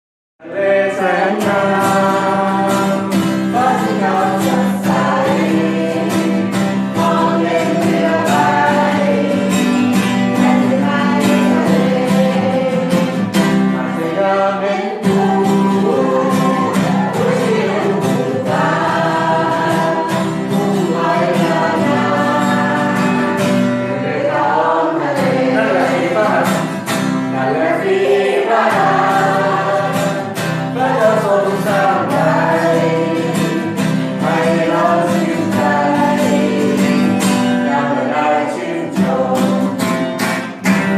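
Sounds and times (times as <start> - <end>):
group singing worship song: 0.4 - 40.9
strummed guitar: 0.4 - 40.9.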